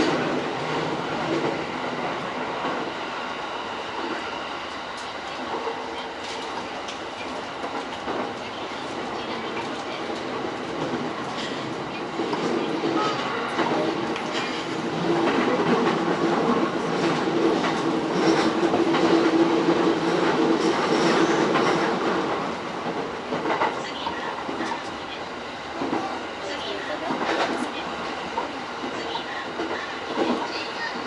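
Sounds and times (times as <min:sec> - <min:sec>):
rail joints clickety-clack: 0:00.0 - 0:31.0
steady train hum: 0:00.0 - 0:31.0
train wheels rumbling on rails: 0:00.0 - 0:31.0.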